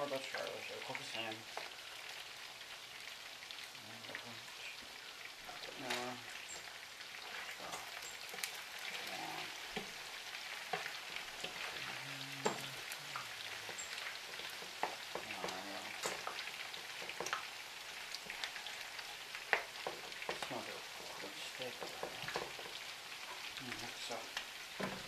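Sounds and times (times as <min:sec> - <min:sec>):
meatballs sizzling in a pan: 0:00.0 - 0:25.0
sharp pops and crackles: 0:03.4 - 0:25.0.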